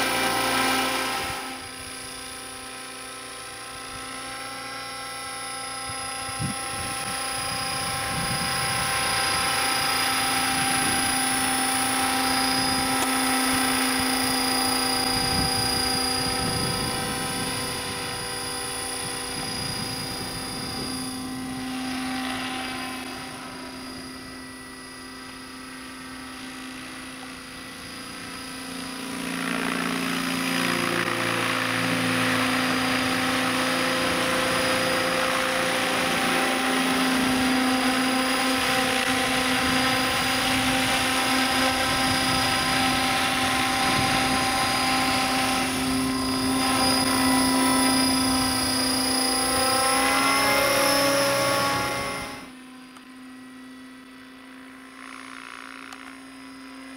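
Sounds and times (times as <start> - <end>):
helicopter rotor noise: 0.0 - 56.9
helicopter turbine whine: 0.0 - 56.9.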